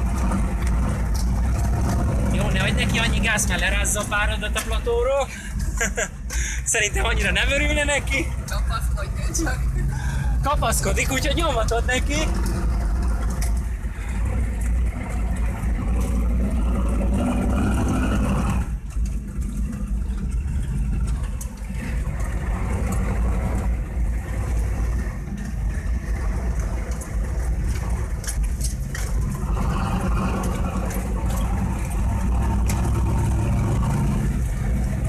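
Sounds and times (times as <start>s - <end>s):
cab knocking and rattling: 0.0s - 35.0s
truck engine under throttle: 0.0s - 35.0s.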